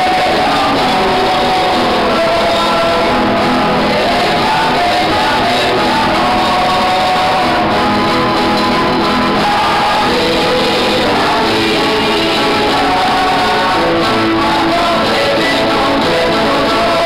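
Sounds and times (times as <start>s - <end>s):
acoustic guitars: 0.0s - 17.0s
men singing together: 0.0s - 17.0s.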